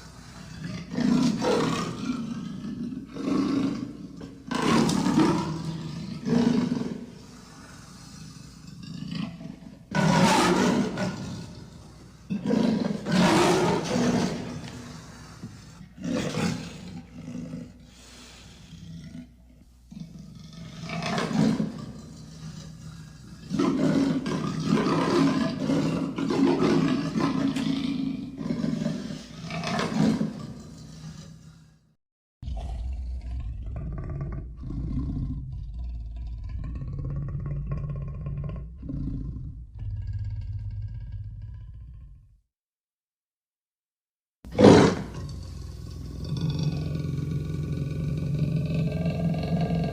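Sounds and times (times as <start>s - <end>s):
deep monster growls: 0.0s - 31.8s, 32.4s - 42.4s, 44.5s - 49.9s.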